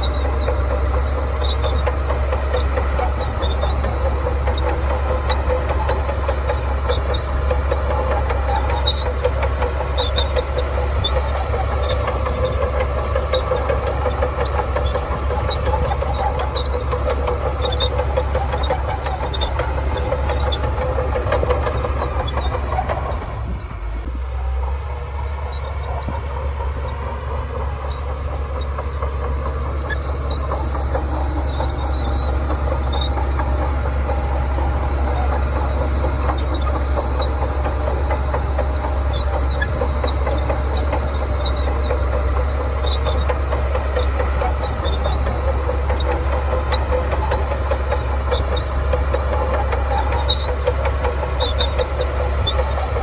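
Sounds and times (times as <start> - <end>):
bulldozer diesel engine: 0.0 - 53.0.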